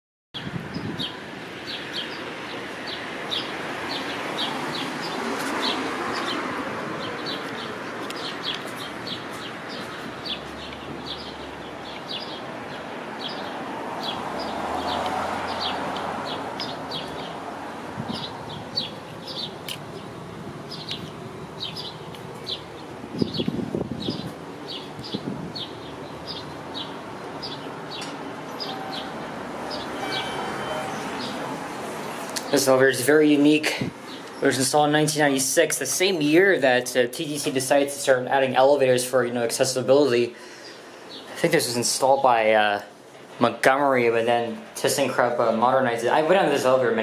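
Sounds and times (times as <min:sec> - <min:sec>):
passing traffic rushing: 0:00.4 - 0:38.1.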